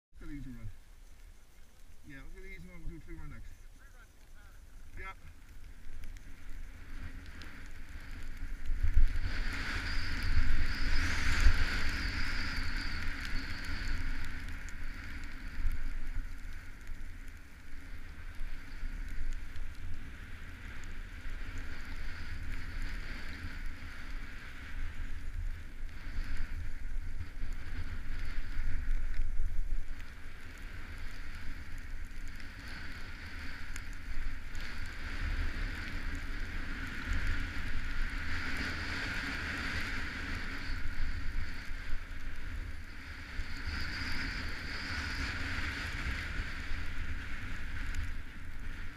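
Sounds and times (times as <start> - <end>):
wind rumbling on microphone: 0.1 - 48.9.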